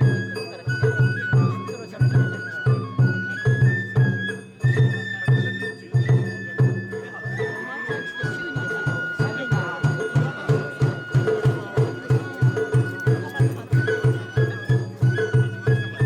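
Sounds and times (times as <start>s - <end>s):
bamboo flute melody: 0.0s - 16.0s
taiko drum beats: 0.0s - 16.0s.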